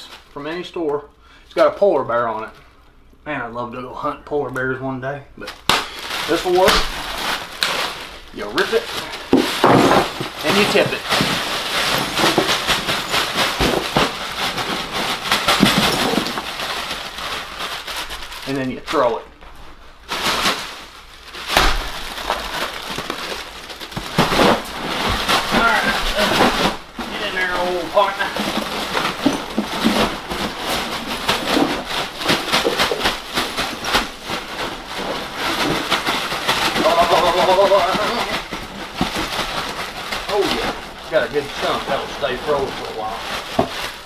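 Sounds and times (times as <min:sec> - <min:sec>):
ice cubes clattering into cooler: 0:05.7 - 0:19.1, 0:21.4 - 0:44.0.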